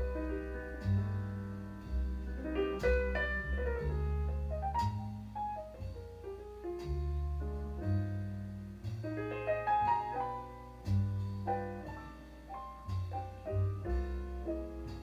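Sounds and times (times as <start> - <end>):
jazz piano melody: 0.0 - 15.0
low bass notes: 0.0 - 15.0.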